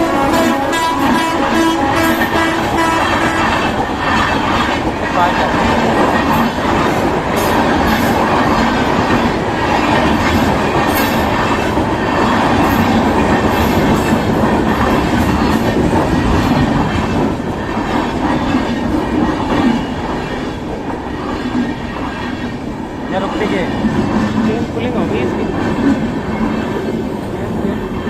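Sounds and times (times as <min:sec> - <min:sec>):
train wheels rumbling and clattering: 0:00.0 - 0:28.0.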